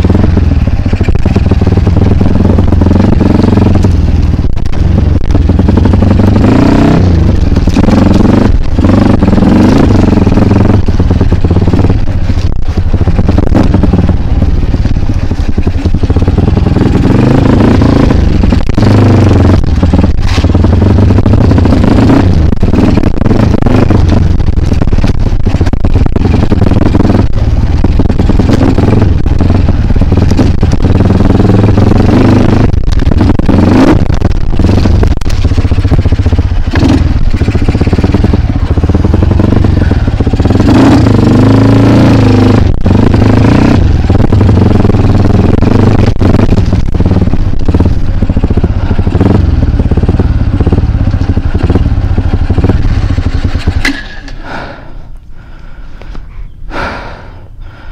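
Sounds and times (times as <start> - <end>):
motorbike engine revving: 0.0 - 56.1.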